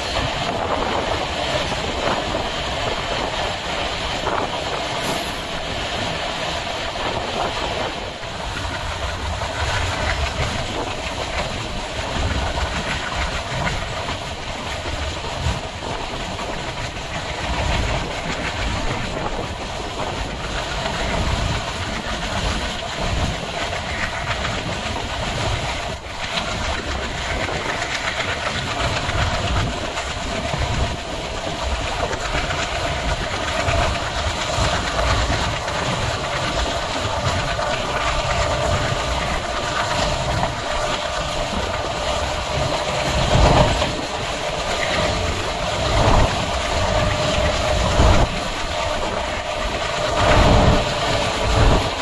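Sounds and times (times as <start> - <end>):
train wheels rumbling and rattling: 0.0 - 52.0.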